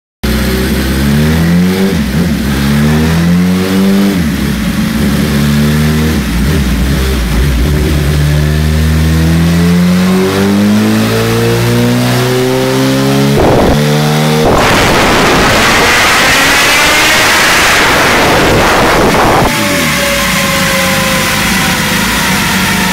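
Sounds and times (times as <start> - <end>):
motorcycle engine revving: 0.2 - 22.9
loud rushing noise: 3.0 - 22.9.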